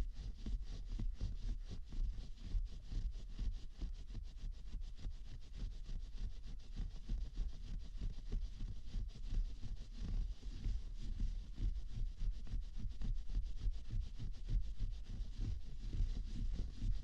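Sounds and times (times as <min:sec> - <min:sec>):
scratching against microphone: 0:00.0 - 0:17.0.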